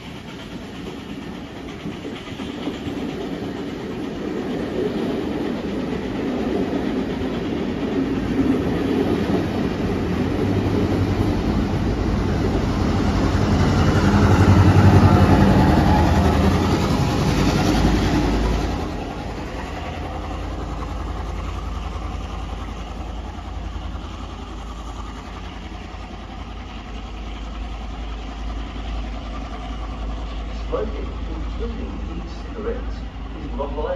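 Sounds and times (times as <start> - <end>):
diesel locomotive engine: 0.0 - 33.9
train carriages rolling past: 0.0 - 33.9.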